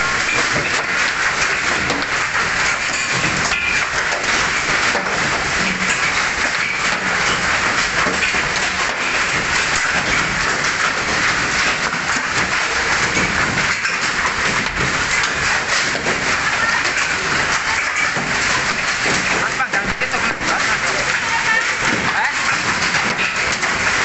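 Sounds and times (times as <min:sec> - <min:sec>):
hail impacts: 0:00.0 - 0:24.0
heavy rain: 0:00.0 - 0:24.0.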